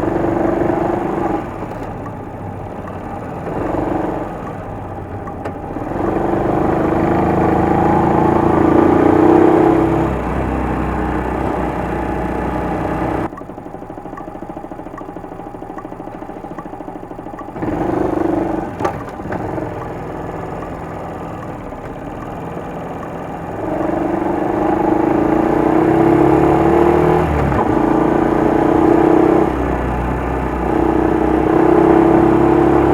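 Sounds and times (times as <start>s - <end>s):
small motorcycle engine: 0.0s - 32.9s.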